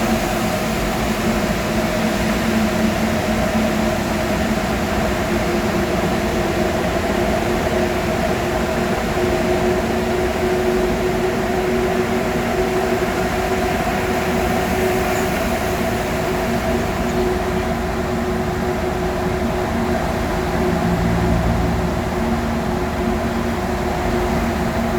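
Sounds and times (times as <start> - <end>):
vehicle engine and road drone: 0.0 - 24.9.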